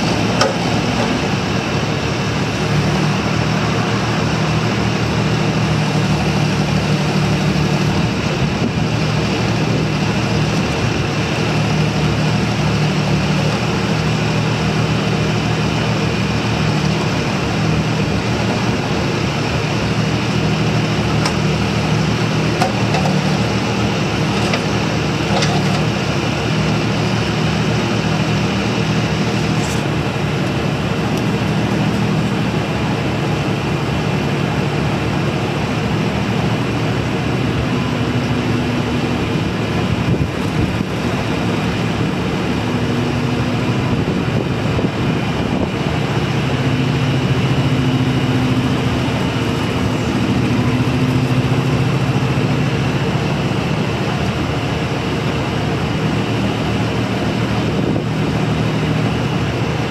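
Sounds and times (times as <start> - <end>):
excavator diesel engine running: 0.0 - 59.9
hydraulics working: 0.0 - 59.9.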